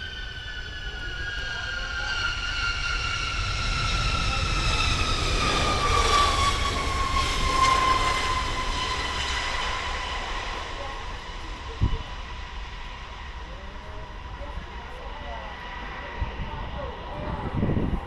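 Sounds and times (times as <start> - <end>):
jet engines whining and rumbling: 0.0 - 18.0.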